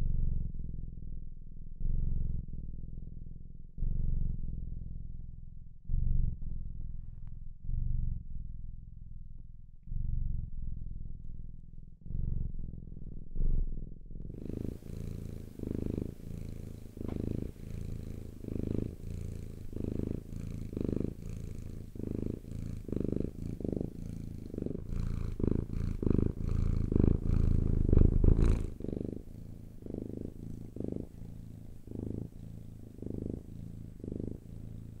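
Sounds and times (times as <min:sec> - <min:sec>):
cat purring: 0:00.0 - 0:35.0.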